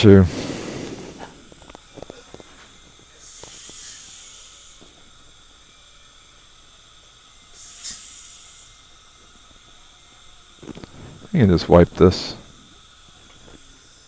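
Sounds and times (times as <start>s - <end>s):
dental equipment hissing: 0.0s - 14.0s.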